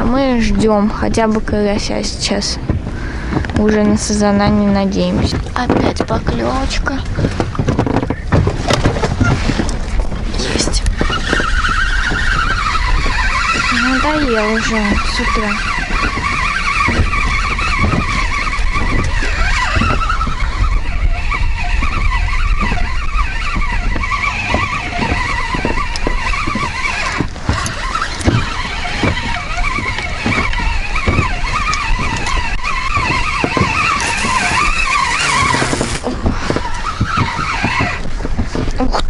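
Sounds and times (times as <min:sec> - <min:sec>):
waves knocking against boat hull: 0:00.0 - 0:39.0
wind buffeting microphone: 0:00.0 - 0:39.0.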